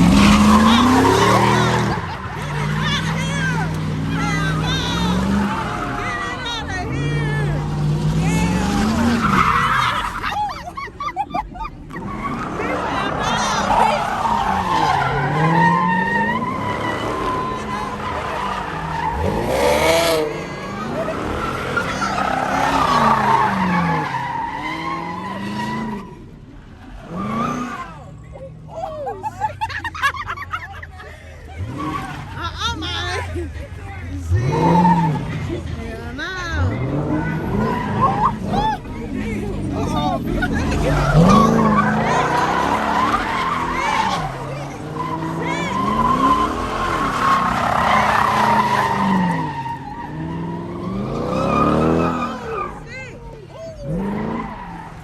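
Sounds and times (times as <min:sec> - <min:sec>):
car engine revving: 0:00.0 - 0:30.8, 0:31.4 - 0:55.0
tyres squealing: 0:00.0 - 0:55.0.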